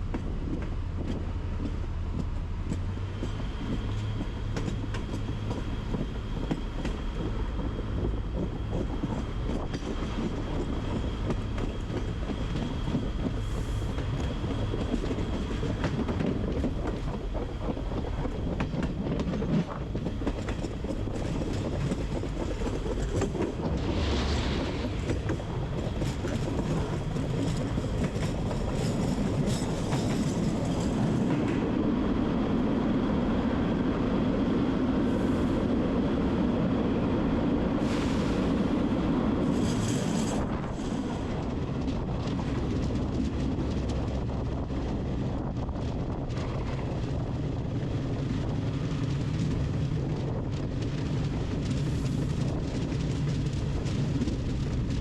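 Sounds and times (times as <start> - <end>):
train rolling on tracks: 0.0 - 55.0.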